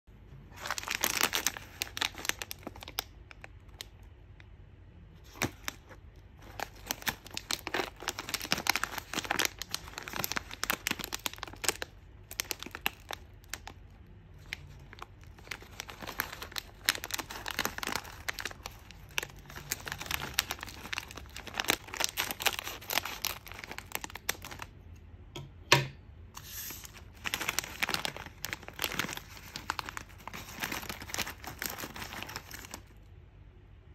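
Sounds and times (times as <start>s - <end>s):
wrapper tearing open: 0.5s - 4.1s, 5.2s - 24.7s, 26.4s - 33.0s
plastic wrapper crinkling: 0.5s - 4.5s, 5.2s - 24.9s, 26.4s - 33.1s.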